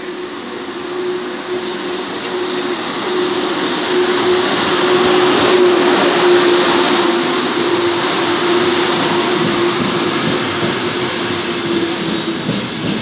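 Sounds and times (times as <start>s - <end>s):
steady train hum: 0.0s - 13.0s
train wheels and air rushing: 0.0s - 13.0s.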